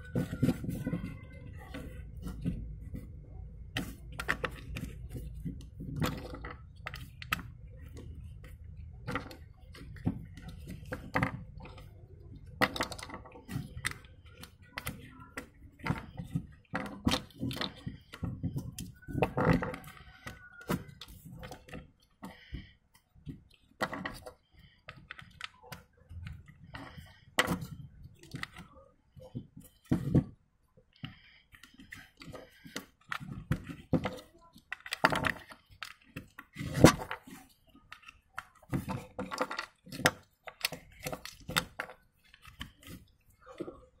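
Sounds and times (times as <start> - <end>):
plastic toy bricks clicking: 3.7 - 22.6, 23.3 - 30.4, 31.0 - 43.8.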